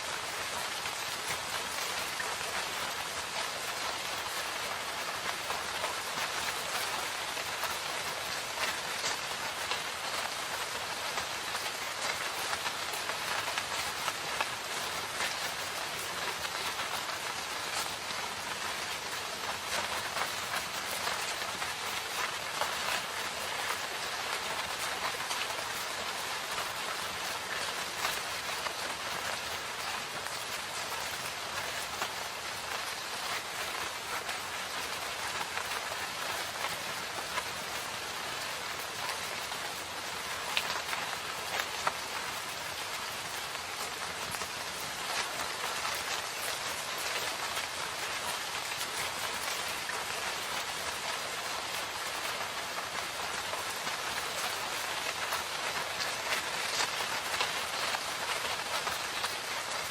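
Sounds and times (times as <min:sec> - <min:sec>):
raindrops pattering on surfaces: 0:00.0 - 0:59.9
steady rain hissing: 0:00.0 - 0:59.9.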